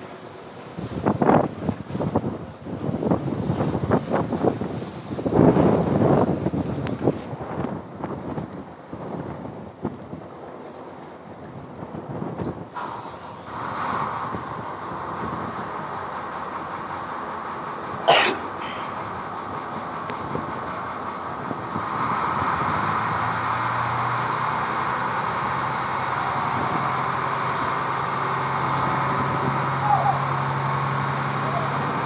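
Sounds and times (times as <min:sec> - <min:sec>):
wash of noise: 0:00.0 - 0:19.3, 0:20.2 - 0:32.0
ship engine humming: 0:00.0 - 0:32.0.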